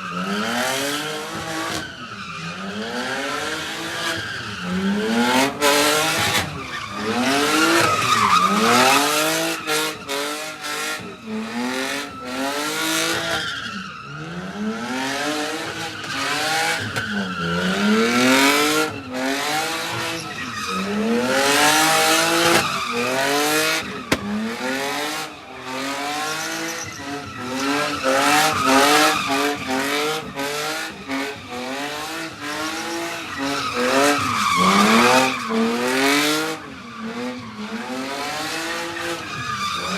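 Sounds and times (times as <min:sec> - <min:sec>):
tires screeching: 0:00.0 - 0:39.9
car engine revving: 0:02.5 - 0:13.4, 0:14.2 - 0:39.2.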